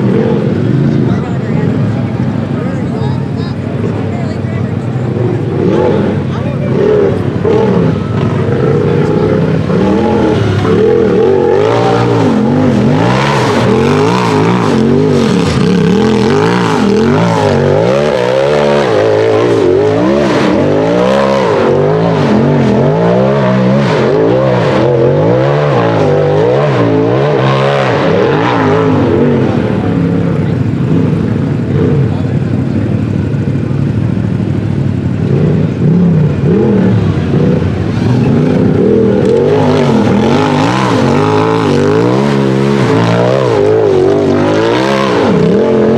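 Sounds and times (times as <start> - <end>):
engine revving up and down: 0.0 - 33.9, 34.9 - 45.9.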